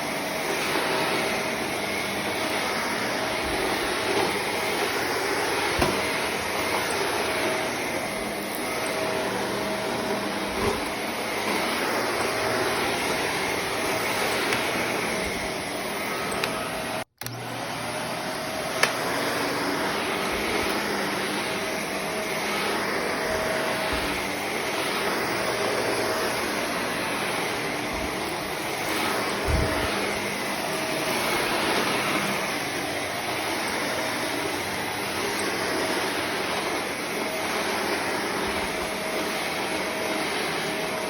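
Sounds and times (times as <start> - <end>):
upright vacuum running: 0.0 - 41.0.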